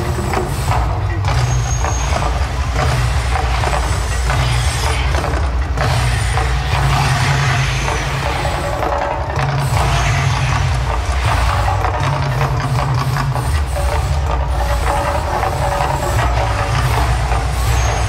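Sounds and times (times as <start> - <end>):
gas flames bursting and hissing: 0.0 - 18.0
soundtrack over loudspeakers: 0.0 - 18.0
steady deep rumble: 0.0 - 18.0.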